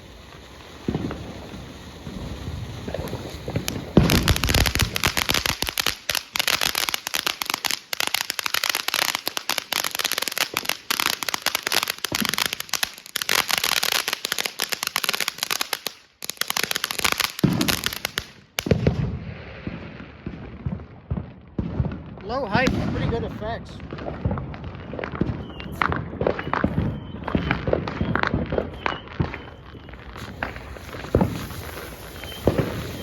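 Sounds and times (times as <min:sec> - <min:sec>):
firework crackling and hissing: 0:00.0 - 0:20.8, 0:22.2 - 0:33.0.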